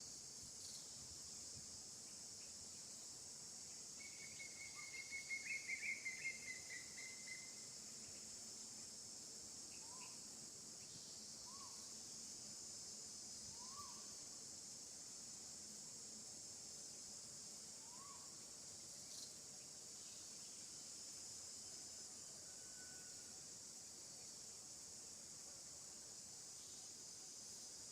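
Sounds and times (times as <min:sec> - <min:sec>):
insect chorus buzzing: 0:00.0 - 0:27.9
pulsing trilling insect call: 0:00.0 - 0:27.9.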